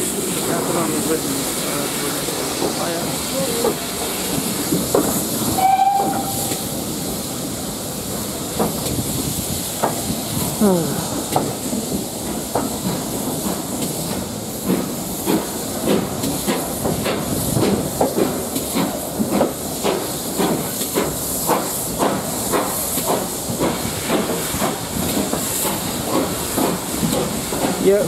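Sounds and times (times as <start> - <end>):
steam hissing: 0.0 - 28.0
steam locomotive chuffing: 0.0 - 28.0.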